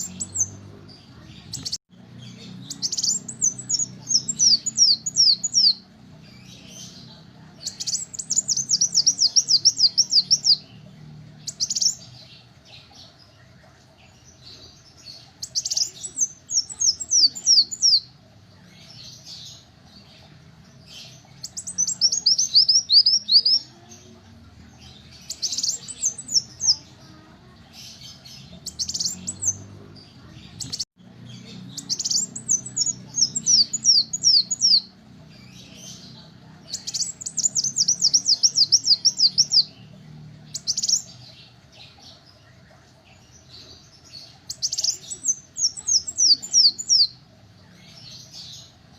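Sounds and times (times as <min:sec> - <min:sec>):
bird chirping trills: 0:00.0 - 0:48.9.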